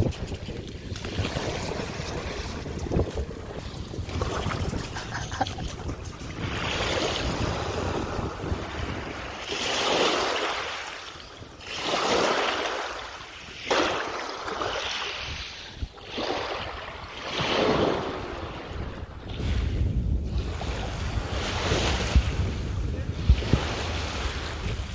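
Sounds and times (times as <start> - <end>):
wind buffeting microphone: 0.0 - 10.2, 14.6 - 24.9.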